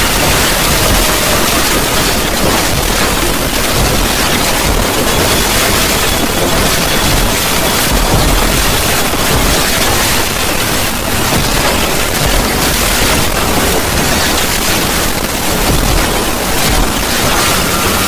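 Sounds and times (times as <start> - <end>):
deep rumble: 0.0 - 18.0
harsh distorted static noise: 0.0 - 18.0.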